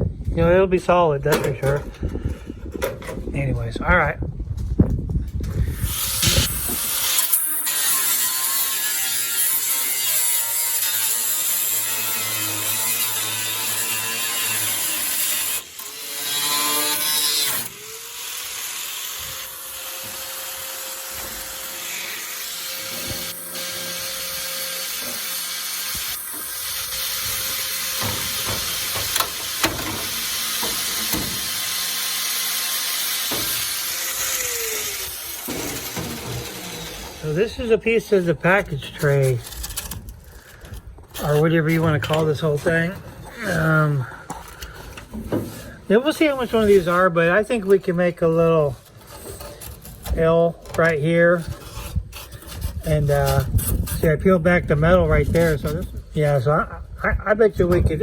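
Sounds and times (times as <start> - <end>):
power tool grinding sheet metal: 5.5 - 54.4.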